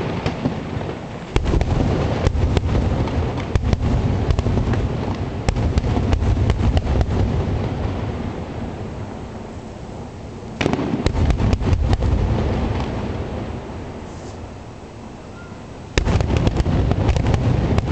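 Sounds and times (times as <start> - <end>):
fireworks cracking: 0.0 - 9.0, 10.4 - 14.5, 15.9 - 17.9
fireworks booming: 0.0 - 14.5, 15.4 - 17.9.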